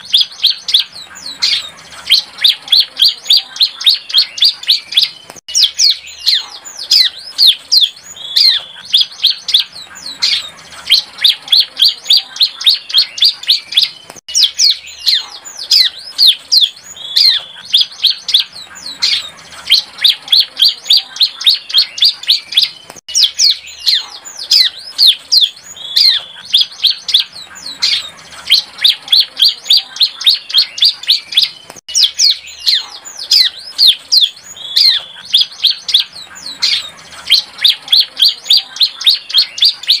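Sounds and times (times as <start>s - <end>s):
bird chirping song: 0.0s - 40.0s.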